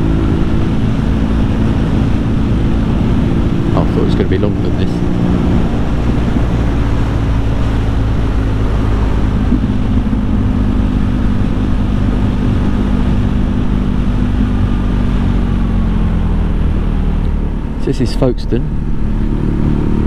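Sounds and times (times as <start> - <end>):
motorcycle engine cruising: 0.0 - 20.0
wind and road noise: 0.0 - 20.0.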